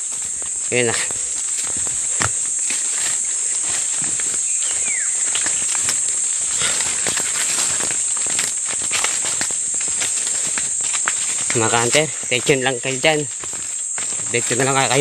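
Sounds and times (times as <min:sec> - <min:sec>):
footsteps and rustling in undergrowth: 0:00.0 - 0:15.0
insects droning: 0:00.0 - 0:15.0.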